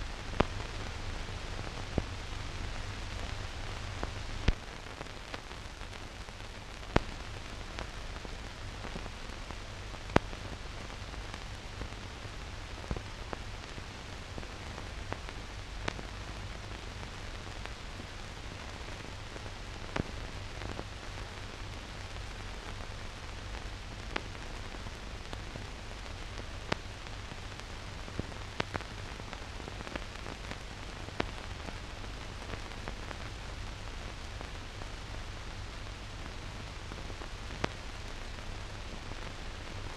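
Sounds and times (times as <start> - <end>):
clicks and crackles: 0.0 - 39.9
film hiss: 0.0 - 39.9.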